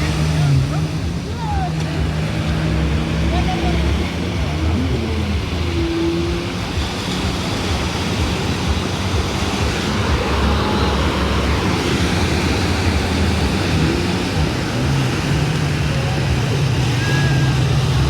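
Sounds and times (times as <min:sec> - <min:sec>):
waves washing on shore: 0:00.0 - 0:18.0.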